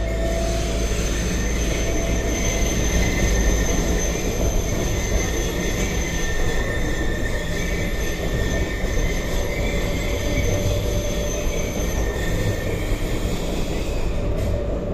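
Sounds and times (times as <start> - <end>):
tram low rumble: 0.0 - 14.9.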